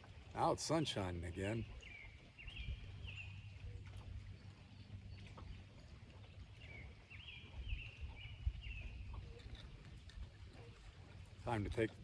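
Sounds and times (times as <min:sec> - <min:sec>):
low wind rumble: 0:01.7 - 0:12.0.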